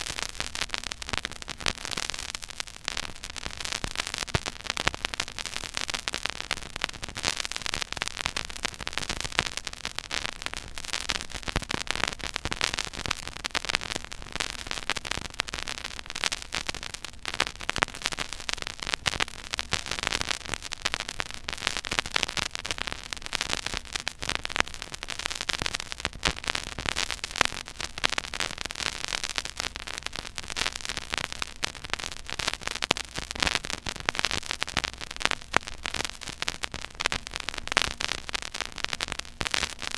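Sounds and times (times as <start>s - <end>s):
record surface hiss: 0.0s - 39.9s
vinyl crackle: 0.0s - 39.9s.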